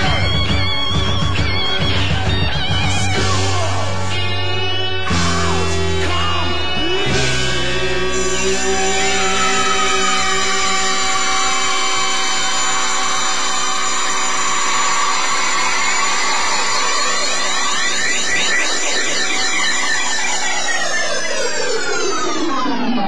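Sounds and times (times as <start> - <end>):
shimmering synthesizer chord: 3.4 - 23.0.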